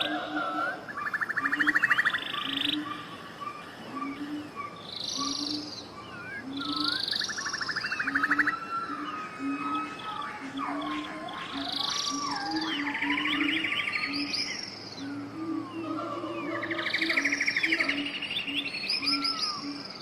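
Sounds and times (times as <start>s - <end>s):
birds calling and singing: 0.0s - 20.0s
fast buzzy bird trill: 0.0s - 20.0s.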